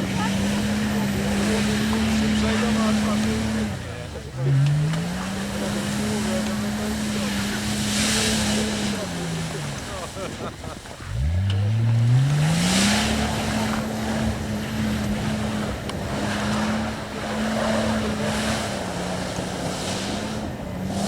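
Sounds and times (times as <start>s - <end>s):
engine revving hard: 0.0s - 21.0s
wheels splashing through wet ground: 0.0s - 21.0s.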